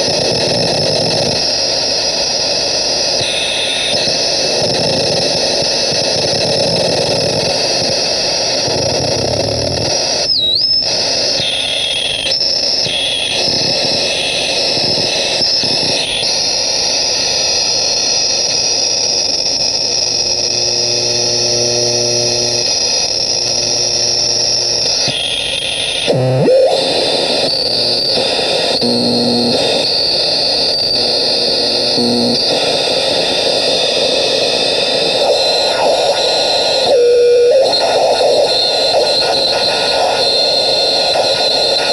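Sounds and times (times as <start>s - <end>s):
synth hiss and static: 0.0s - 41.9s.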